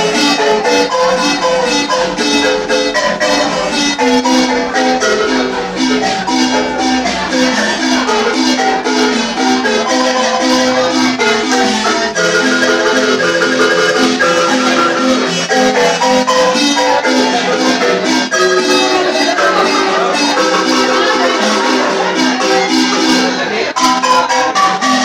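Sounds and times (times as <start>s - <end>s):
marimba played with mallets: 0.0s - 25.0s.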